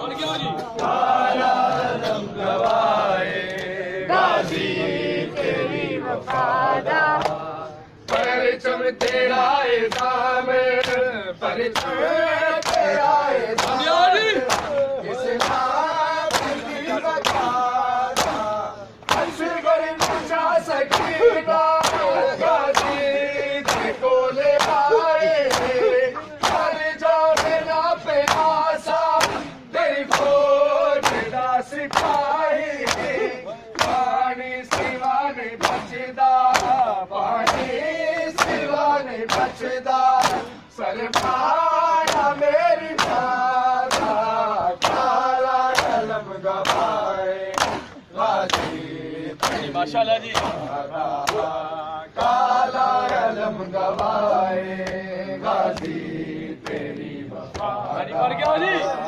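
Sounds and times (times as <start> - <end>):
men chanting a lament: 0.0 - 59.0
men slapping chests in unison: 0.4 - 59.0.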